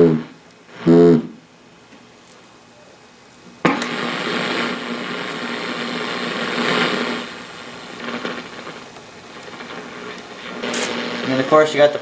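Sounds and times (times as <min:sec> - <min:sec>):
radio static hissing with hum: 0:00.0 - 0:12.0.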